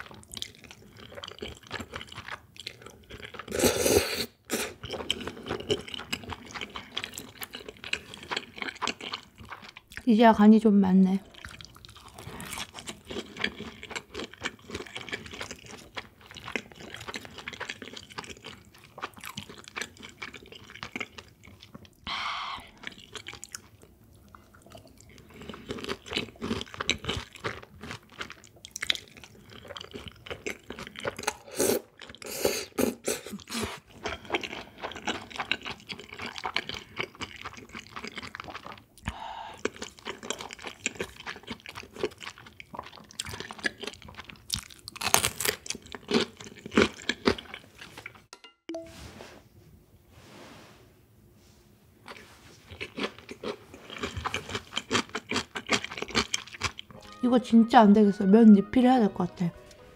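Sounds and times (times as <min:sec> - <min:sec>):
chewing and crunching food: 0:00.0 - 0:48.3, 0:52.0 - 0:57.2.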